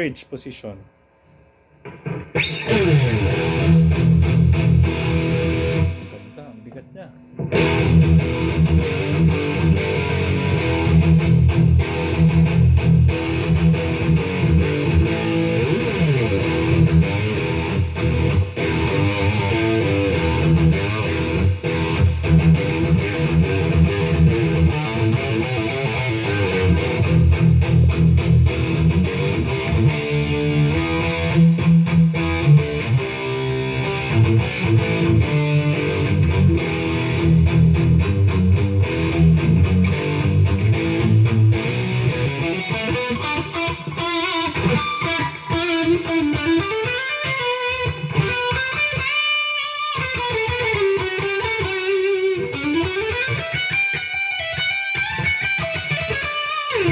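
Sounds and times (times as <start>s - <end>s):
distorted electric guitar riffs: 1.8s - 56.9s.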